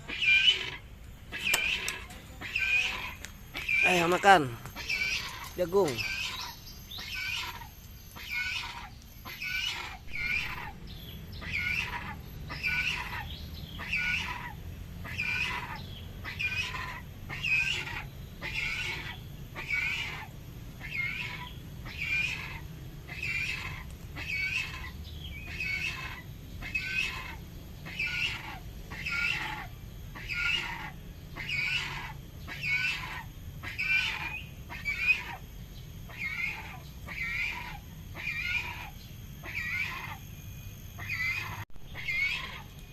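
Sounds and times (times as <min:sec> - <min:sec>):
cockatoo calling: 0:00.0 - 0:42.9.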